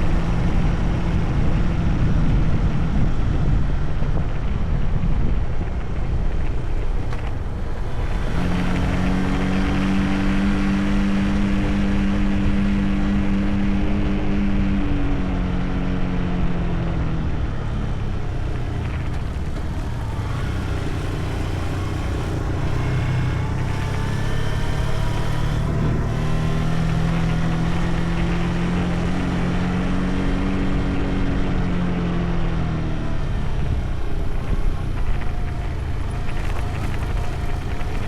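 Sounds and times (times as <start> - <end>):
motorcycle engine cruising: 0.0 - 38.0
wind and road noise: 0.0 - 38.0.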